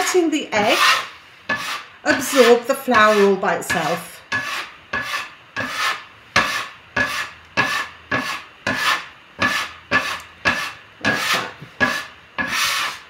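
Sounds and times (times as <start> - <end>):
metal scraper scraping wooden board: 0.6 - 13.0.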